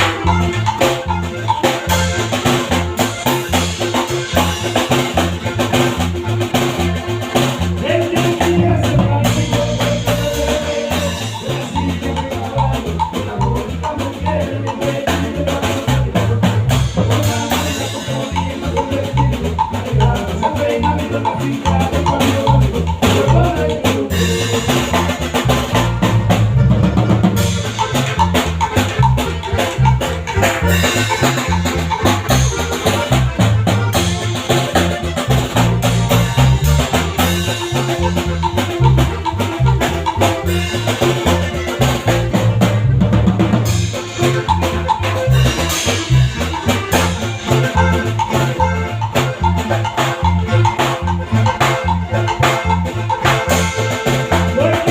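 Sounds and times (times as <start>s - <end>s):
band music playing: 0.0s - 54.9s
bass line: 0.0s - 54.9s
steady drum beat: 0.0s - 54.9s.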